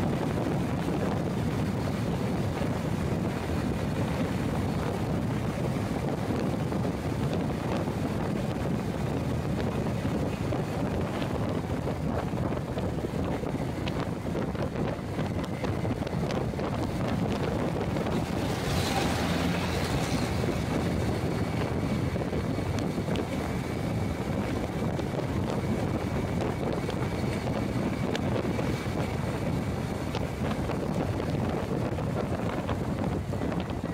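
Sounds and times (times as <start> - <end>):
road and traffic rumble: 0.0 - 33.9
wind buffeting microphone: 0.0 - 33.9.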